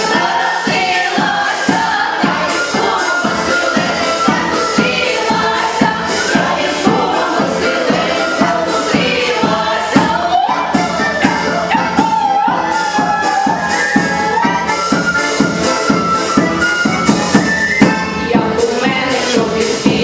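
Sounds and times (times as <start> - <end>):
choir singing with accompaniment: 0.0 - 20.0.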